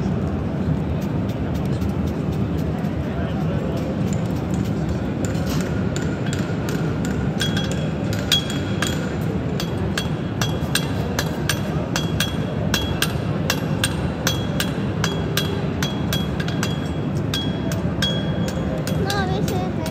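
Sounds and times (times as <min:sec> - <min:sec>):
steady background hum: 0:00.0 - 0:19.9
hammer striking iron on anvil: 0:03.8 - 0:19.9.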